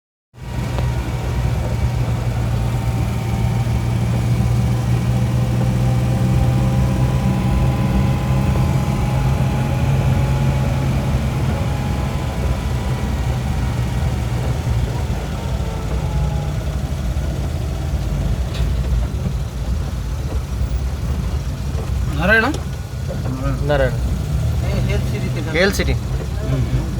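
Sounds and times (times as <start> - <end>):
engine idling: 0.4 - 26.9.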